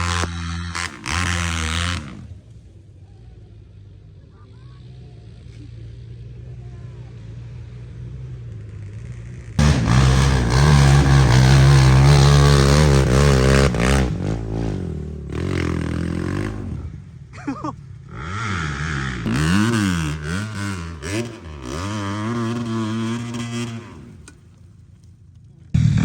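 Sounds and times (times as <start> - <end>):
off-road engine revving: 0.0 - 2.8, 4.8 - 24.6, 25.8 - 26.0.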